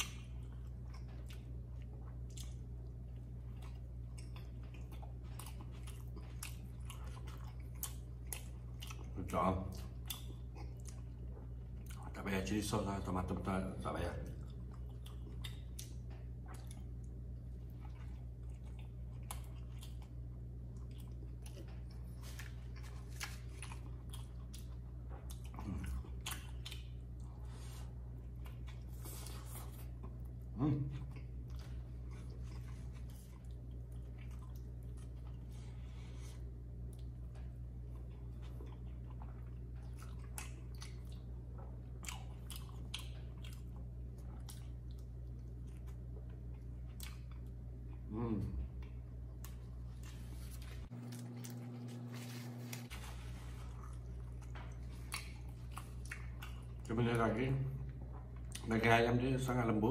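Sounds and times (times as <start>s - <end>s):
chewing with wet mouth clicks: 0.0s - 12.2s, 14.2s - 35.4s, 36.7s - 48.1s, 53.6s - 57.0s, 57.8s - 58.9s.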